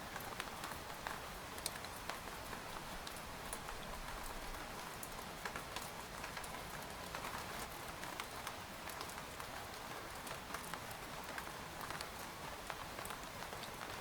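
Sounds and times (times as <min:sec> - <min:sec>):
rain hissing on a tent: 0:00.0 - 0:14.0.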